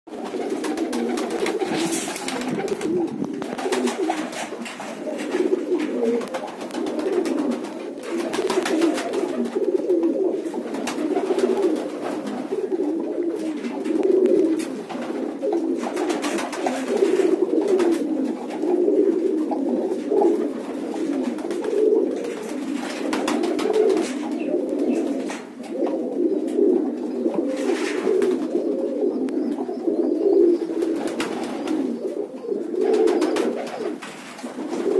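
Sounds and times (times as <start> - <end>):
pigeons cooing: 0.1 - 34.9.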